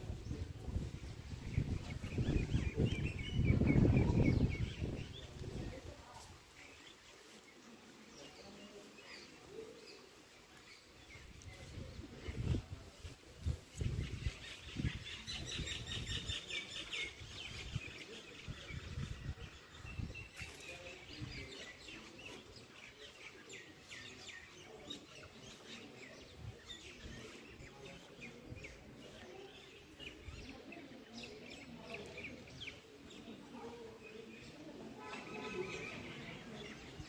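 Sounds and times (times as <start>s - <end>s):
small birds chirping and twittering: 0.0s - 37.0s.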